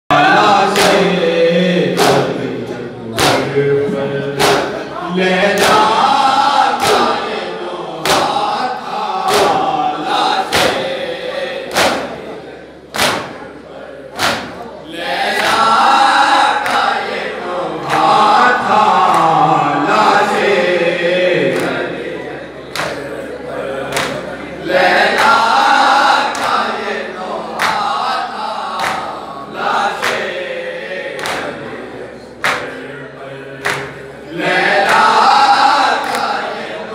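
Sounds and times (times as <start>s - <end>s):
men chanting in unison: 0.1s - 12.8s, 13.8s - 36.9s
lead reciter: 0.1s - 36.9s.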